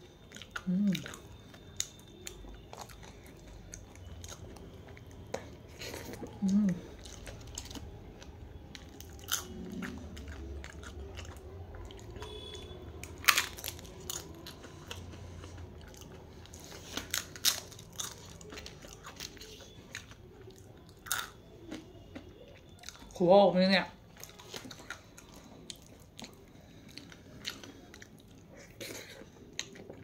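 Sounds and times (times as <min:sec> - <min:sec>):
person chewing food: 0:00.0 - 0:23.2, 0:24.0 - 0:30.0
food crunching: 0:00.0 - 0:23.3, 0:24.1 - 0:30.0.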